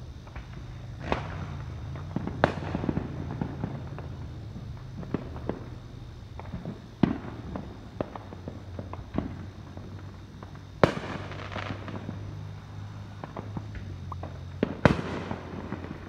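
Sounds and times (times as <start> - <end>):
distant fireworks popping: 0.0 - 16.0
firework crackling: 0.0 - 16.0
low steady hum: 0.0 - 16.0.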